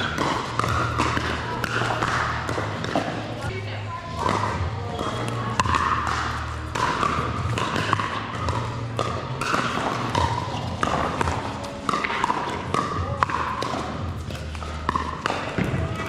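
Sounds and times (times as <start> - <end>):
paddles striking plastic ball: 0.0 - 3.3, 4.1 - 16.0.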